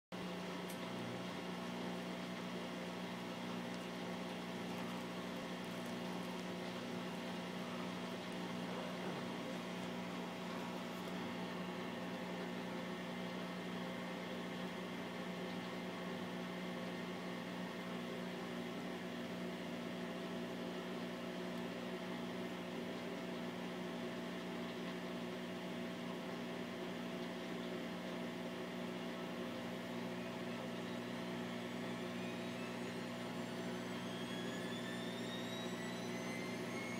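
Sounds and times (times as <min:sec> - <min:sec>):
washing machine rising whine: 0:00.1 - 0:36.9
washing machine drum humming: 0:00.2 - 0:36.9.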